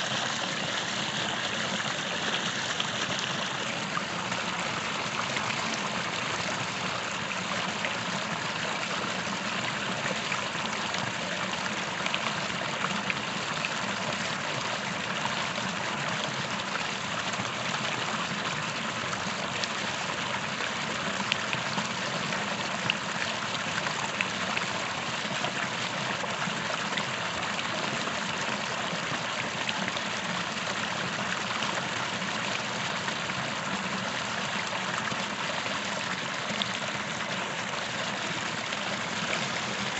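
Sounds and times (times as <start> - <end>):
creek water trickling over stones: 0.0 - 39.9.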